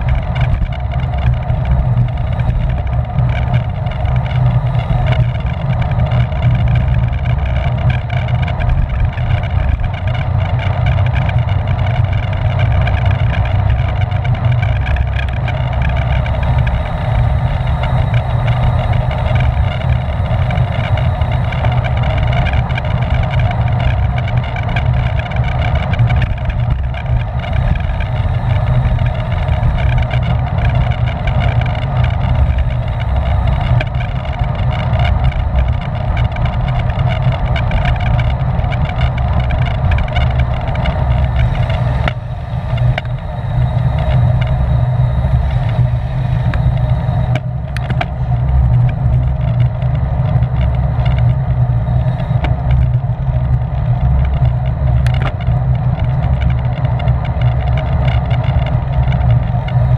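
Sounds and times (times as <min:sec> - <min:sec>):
tyre and drivetrain hum: 0:00.0 - 0:59.9
wind rushing over microphone: 0:00.0 - 0:59.9.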